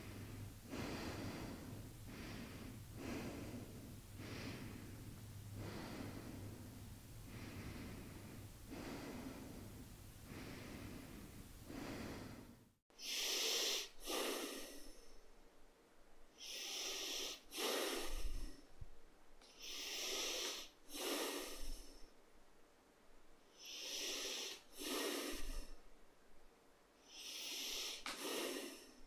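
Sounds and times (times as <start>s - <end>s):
nasal breathing: 0.0s - 15.3s, 16.3s - 22.2s, 23.5s - 25.9s, 27.0s - 29.0s.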